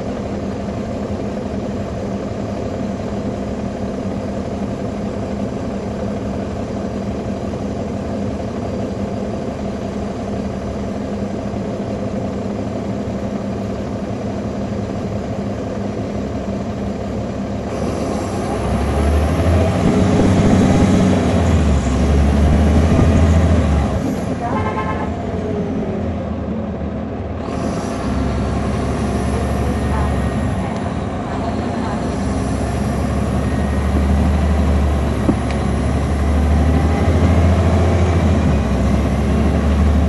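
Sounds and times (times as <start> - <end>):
bus diesel engine: 0.0 - 40.0.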